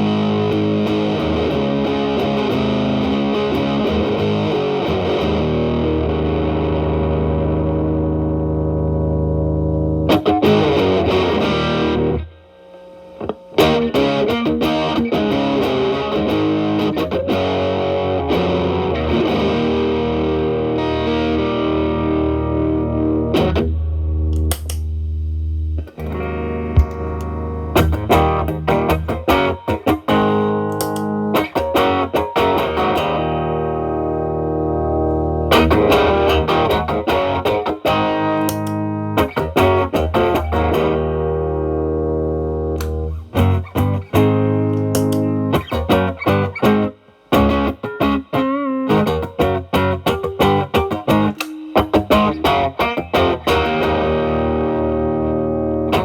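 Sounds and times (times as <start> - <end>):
overdriven electric guitar: 0.0 - 56.0.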